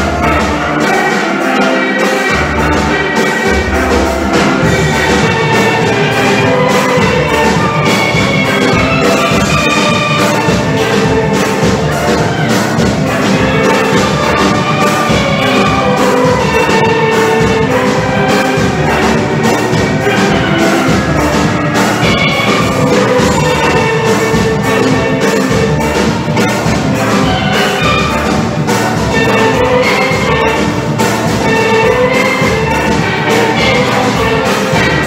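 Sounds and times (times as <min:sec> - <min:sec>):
percussion beat: 0:00.0 - 0:35.0
steelpans playing melody: 0:00.0 - 0:35.0.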